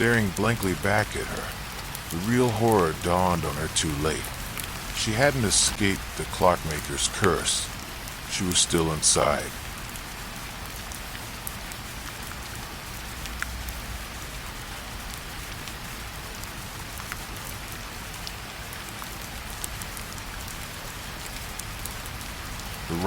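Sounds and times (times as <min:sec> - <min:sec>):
raindrop ticks: 0:00.0 - 0:23.0
steady rainfall hiss: 0:00.0 - 0:23.0.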